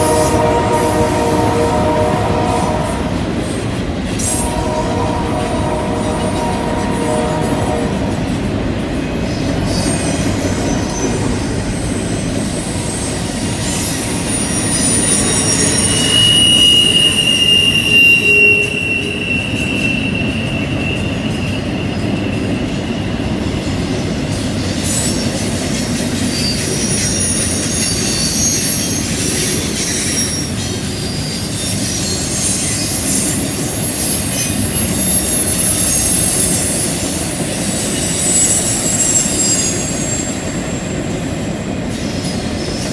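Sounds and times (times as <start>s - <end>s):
rumble of freight cars: 0.0s - 42.9s
train wheels squealing on rail: 0.0s - 42.9s.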